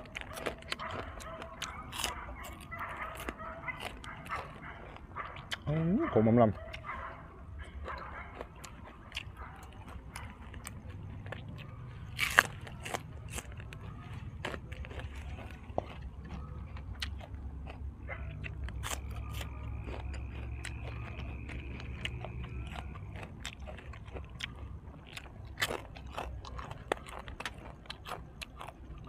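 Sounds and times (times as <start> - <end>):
chewing and crunching: 0.0 - 29.0.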